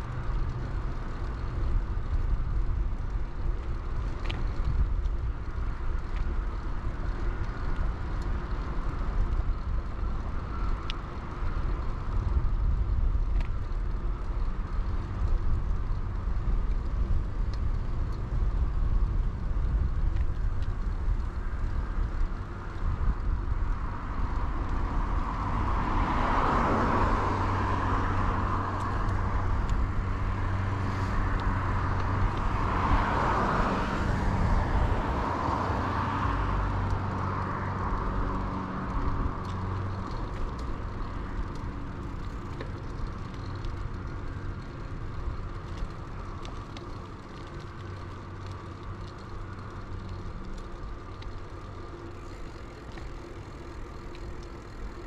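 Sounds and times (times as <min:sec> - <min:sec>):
bicycle riding noise: 0:00.0 - 0:55.0
low wind rumble: 0:00.0 - 0:55.0
motor vehicles passing: 0:00.0 - 0:55.0.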